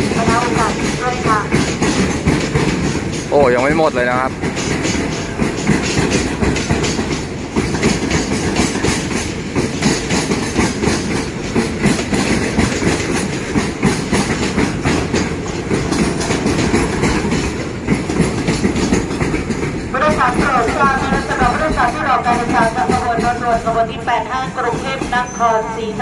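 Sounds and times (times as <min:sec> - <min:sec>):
train wheels clacking on rails: 0:00.0 - 0:26.0.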